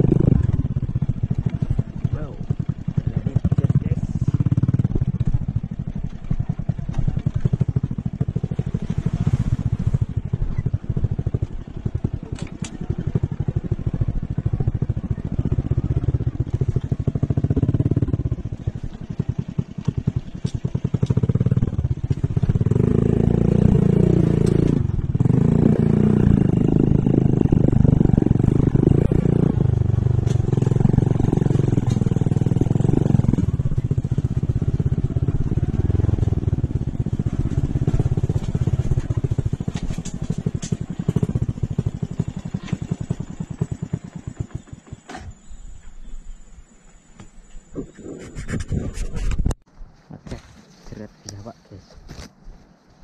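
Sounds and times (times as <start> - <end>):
small motorcycle engine running: 0.0 - 45.9.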